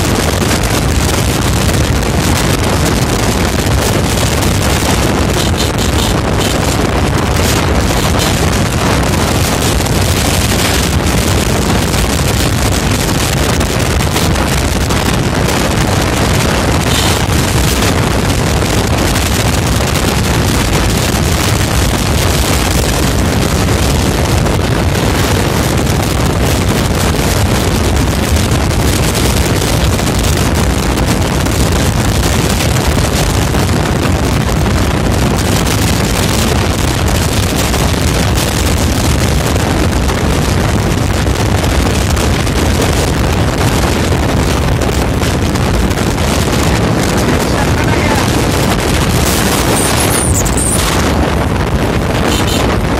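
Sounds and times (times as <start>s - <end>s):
vehicle road and engine noise: 0.0s - 52.9s
wind on microphone: 0.0s - 52.9s.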